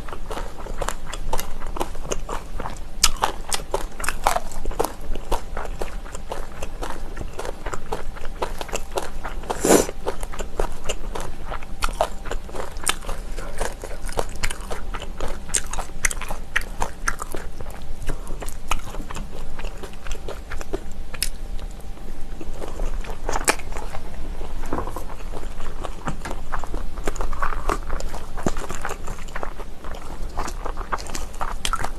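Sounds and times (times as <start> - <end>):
chewing and crunching: 0.0 - 31.9.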